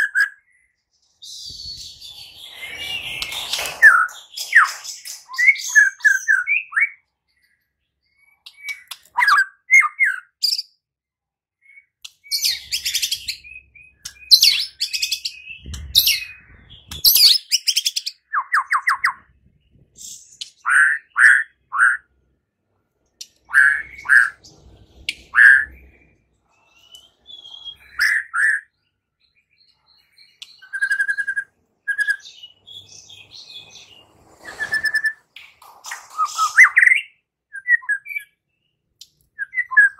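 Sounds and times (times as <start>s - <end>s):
songbird whistles and trills: 0.0s - 10.7s, 11.6s - 19.3s, 25.0s - 39.9s.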